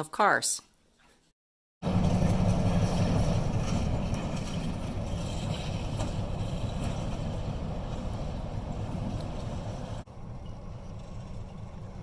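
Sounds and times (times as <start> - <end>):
diesel locomotive engine rumbling: 1.8 - 12.0.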